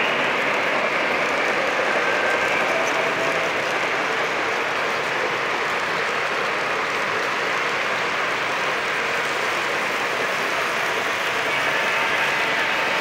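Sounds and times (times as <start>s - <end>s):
model train cars rolling: 0.0s - 13.0s.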